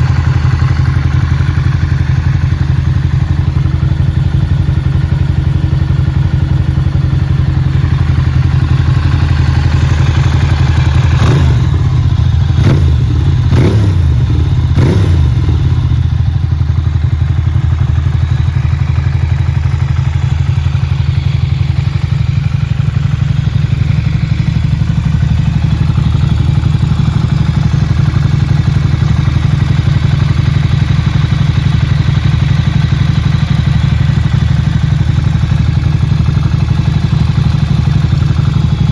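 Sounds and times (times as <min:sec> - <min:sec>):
loud motorcycle engine idling and revving: 0:00.0 - 0:38.9.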